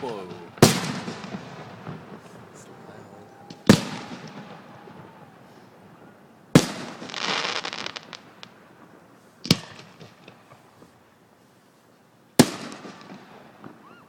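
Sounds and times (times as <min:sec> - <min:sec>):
firework bangs: 0:00.0 - 0:10.8, 0:12.4 - 0:14.0
firework crackling: 0:00.0 - 0:11.1, 0:12.3 - 0:14.0.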